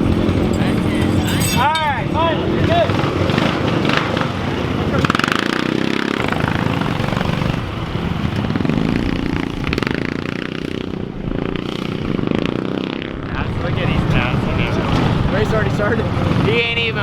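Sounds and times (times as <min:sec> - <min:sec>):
off-road race vehicle engines: 0:00.0 - 0:17.0.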